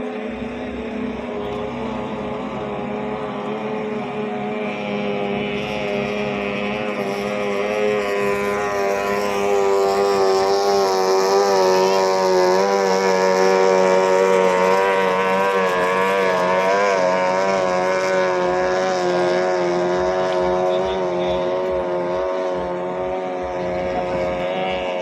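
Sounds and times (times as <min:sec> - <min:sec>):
outboard motor whining: 0:00.0 - 0:25.0.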